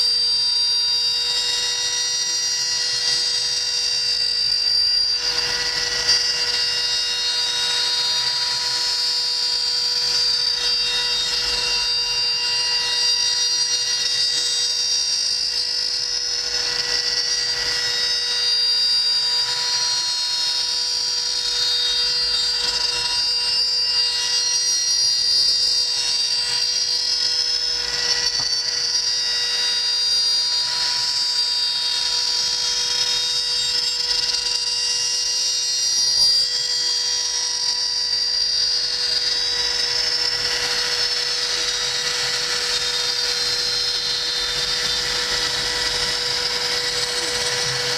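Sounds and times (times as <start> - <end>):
router spindle whining: 0.0 - 47.9.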